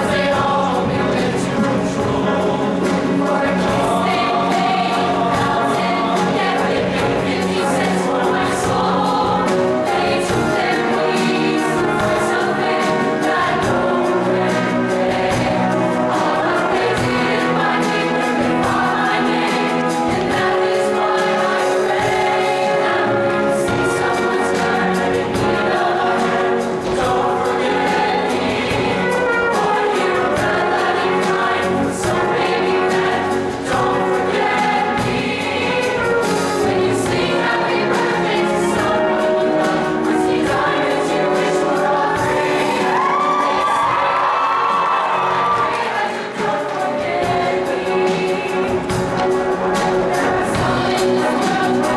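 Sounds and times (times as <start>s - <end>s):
choir singing in harmony: 0.0s - 51.9s
live band accompaniment: 0.0s - 51.9s.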